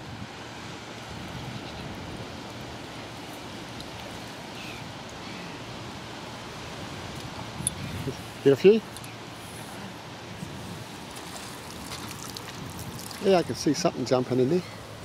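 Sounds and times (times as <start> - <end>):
moving water: 0.0 - 15.0
wind: 0.0 - 15.0.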